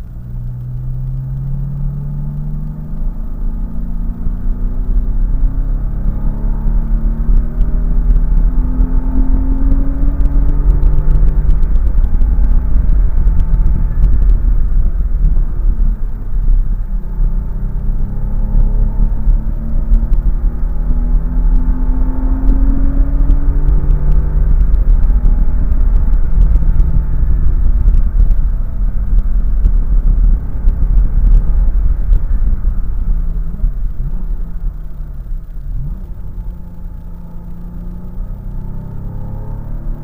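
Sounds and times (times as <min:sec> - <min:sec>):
car engine revving: 0:00.0 - 0:40.0
heavy low rumble: 0:00.0 - 0:40.0.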